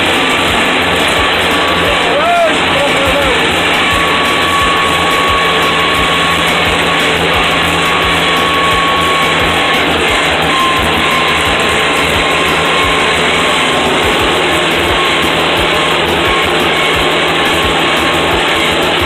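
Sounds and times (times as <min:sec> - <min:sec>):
thin steady whine: 0:00.0 - 0:19.0
tractor engine running: 0:00.0 - 0:19.0.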